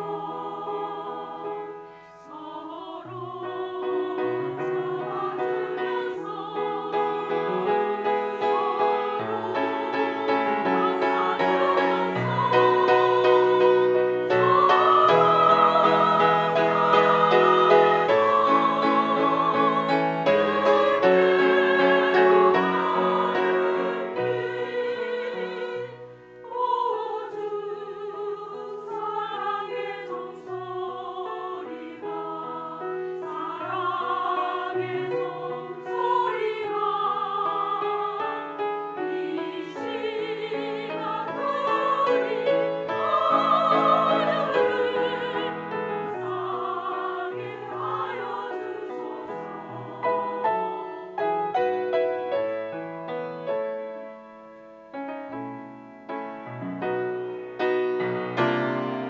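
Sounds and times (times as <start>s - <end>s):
women's choir singing a hymn: 0.0s - 52.9s, 57.2s - 59.0s
piano accompaniment: 3.1s - 27.2s, 29.0s - 59.0s.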